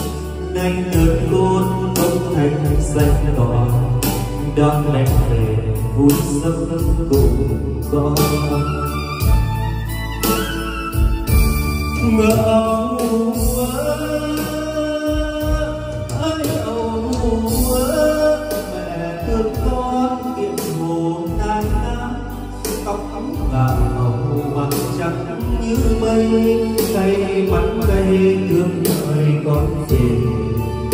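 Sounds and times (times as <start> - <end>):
backing music with heavy bass: 0.0 - 30.9
man singing karaoke: 0.0 - 30.9.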